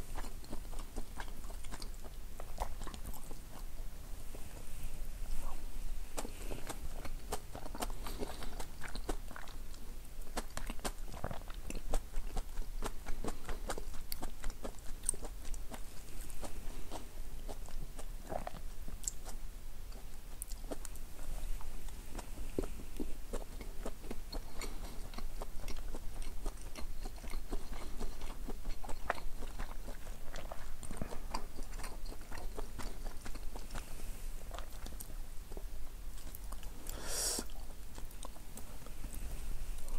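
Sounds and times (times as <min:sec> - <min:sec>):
chewing with wet mouth clicks: 0:00.0 - 0:04.7, 0:05.5 - 0:39.9.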